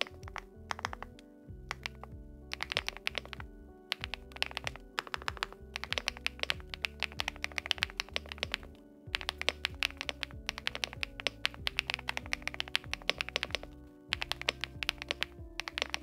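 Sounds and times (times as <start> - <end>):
background music with bass line: 0.0 - 16.0
fast typing on mechanical keyboard: 0.0 - 16.0.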